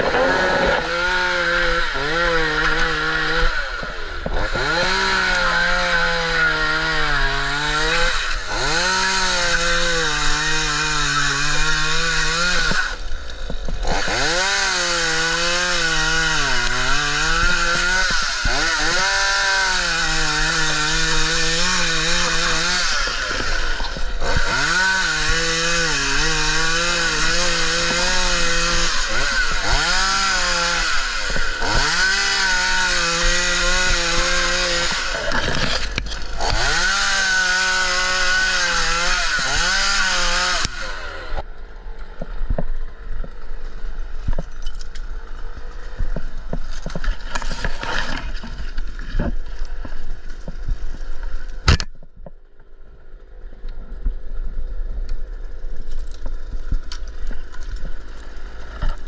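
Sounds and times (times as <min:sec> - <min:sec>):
chainsaw cutting: 0:00.0 - 0:51.8, 0:55.6 - 0:59.0.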